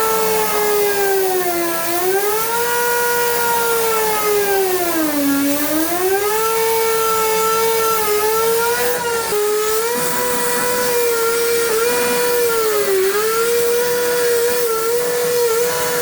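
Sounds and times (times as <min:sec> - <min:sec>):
machine motor whining: 0:00.0 - 0:16.0.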